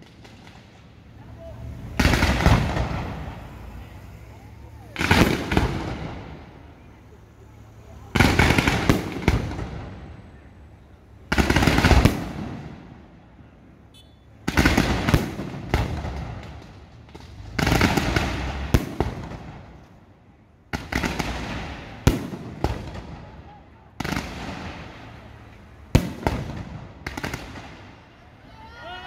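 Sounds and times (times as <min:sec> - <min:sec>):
fireworks bangs and crackles: 0:00.0 - 0:13.6, 0:14.3 - 0:28.4.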